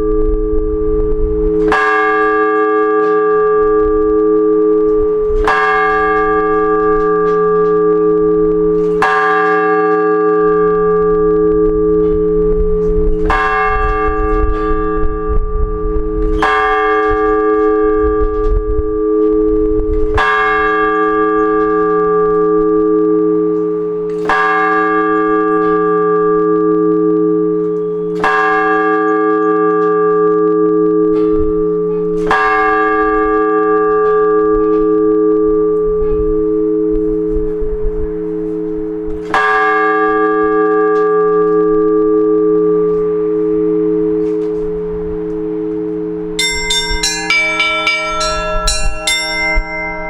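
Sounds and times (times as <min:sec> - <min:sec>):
large church bell strokes: 0:00.0 - 0:50.0.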